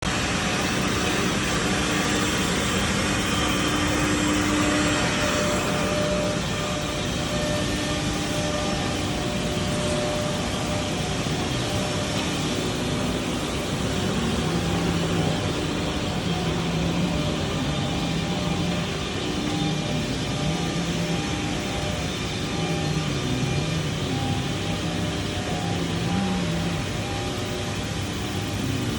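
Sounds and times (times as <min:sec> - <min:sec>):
cnc routers running: 0:00.0 - 0:28.9
faint held tones: 0:00.1 - 0:28.9.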